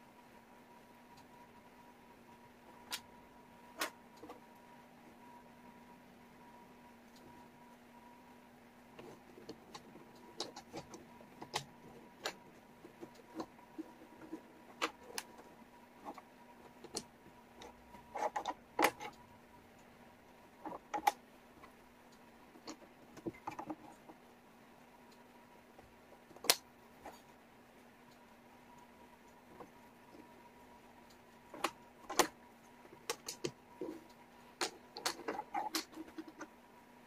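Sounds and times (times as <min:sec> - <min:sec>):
faint hum: 0:00.0 - 0:37.0.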